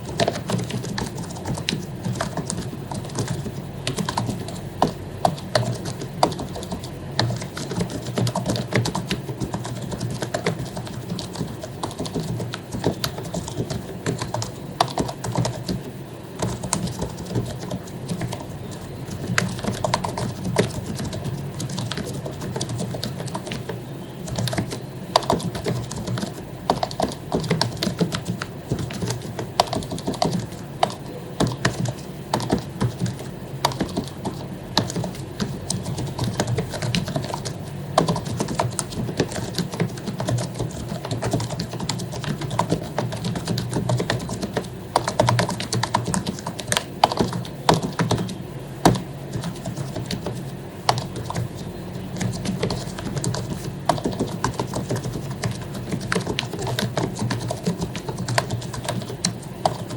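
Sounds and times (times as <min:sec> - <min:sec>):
typing on a keyboard: 0:00.0 - 0:59.9.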